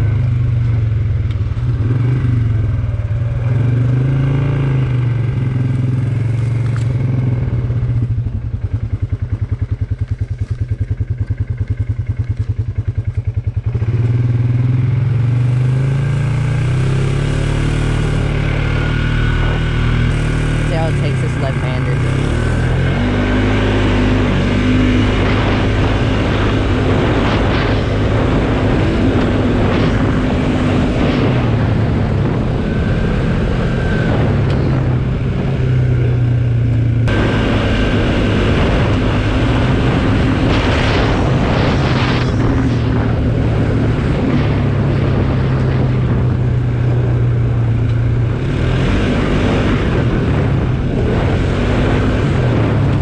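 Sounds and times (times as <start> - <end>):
atv engine running: 0.0 - 53.0
riding noise: 0.0 - 53.0.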